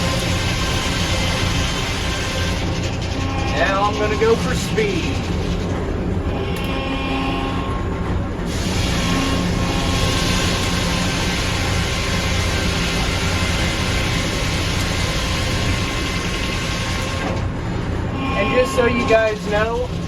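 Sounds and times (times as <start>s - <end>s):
sawmill machinery hum: 0.0s - 20.0s.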